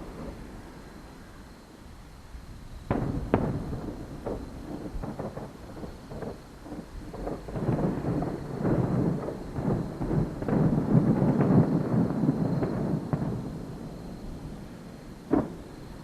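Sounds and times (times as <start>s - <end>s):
fireworks booming: 0.0s - 1.4s, 2.8s - 16.0s.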